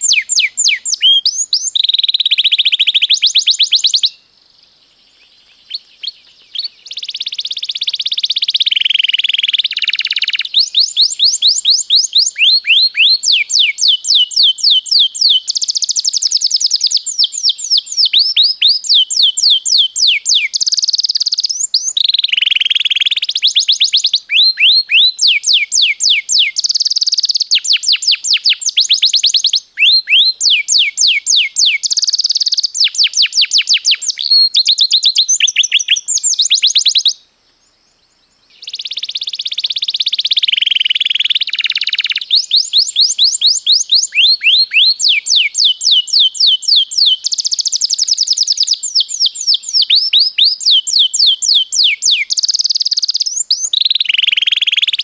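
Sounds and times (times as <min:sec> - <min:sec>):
canary singing trills: 0:00.0 - 0:04.2, 0:05.1 - 0:37.2, 0:38.0 - 0:55.0.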